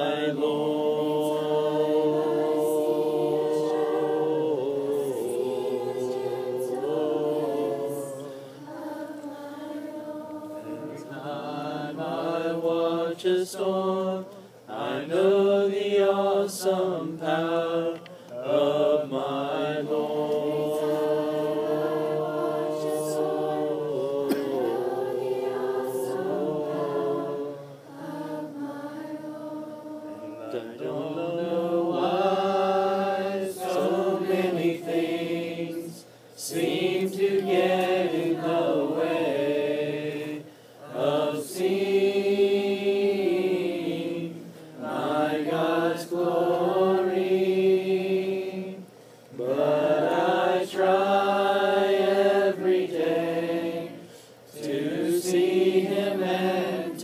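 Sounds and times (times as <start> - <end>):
group singing worship song: 0.0 - 57.0.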